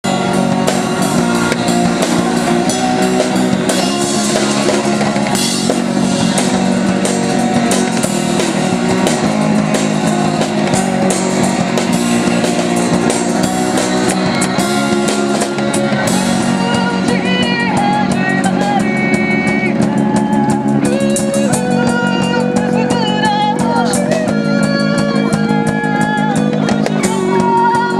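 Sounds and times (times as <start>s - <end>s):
drum kit: 0.0s - 27.9s
electric guitar: 0.0s - 27.9s.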